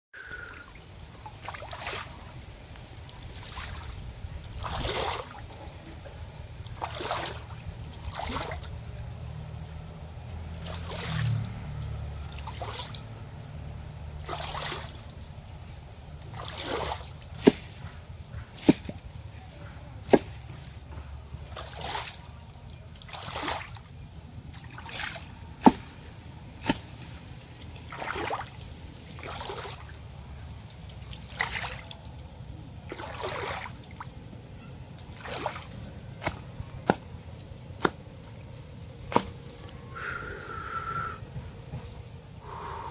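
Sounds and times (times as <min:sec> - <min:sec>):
shallow river water splashing: 0:00.2 - 0:41.1
steady low rumble: 0:00.6 - 0:42.9.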